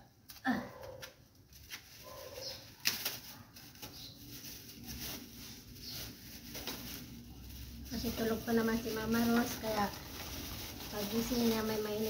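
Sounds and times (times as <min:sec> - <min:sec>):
sharp crackle: 0:00.3 - 0:12.0
plastic bag rustling: 0:00.8 - 0:12.0.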